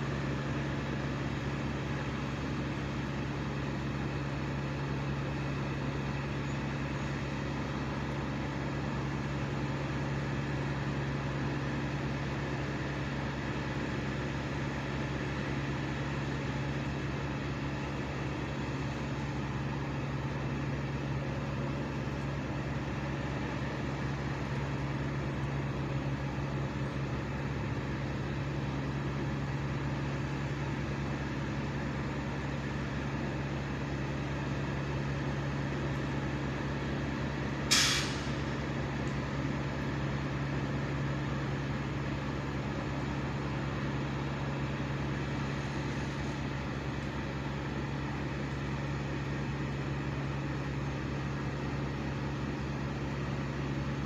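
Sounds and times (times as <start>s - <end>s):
engine running at high idle: 0.0s - 54.0s.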